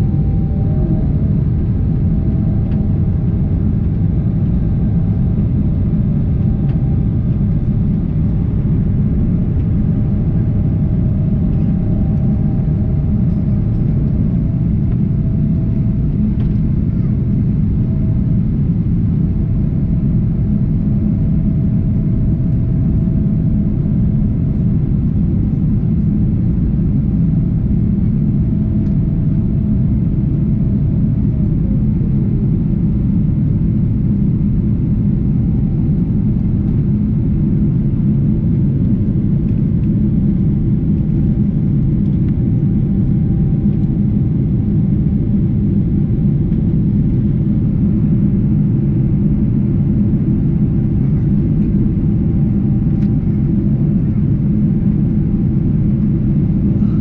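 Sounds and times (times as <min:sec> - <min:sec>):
aircraft engines and airflow rumble: 0:00.0 - 0:57.0.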